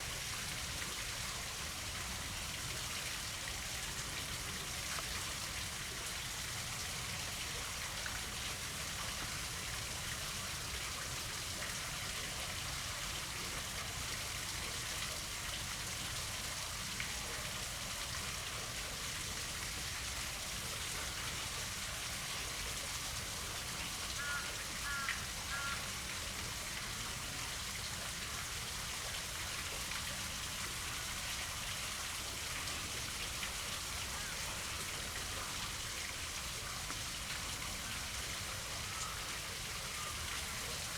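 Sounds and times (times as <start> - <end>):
falling rain: 0.0 - 40.9.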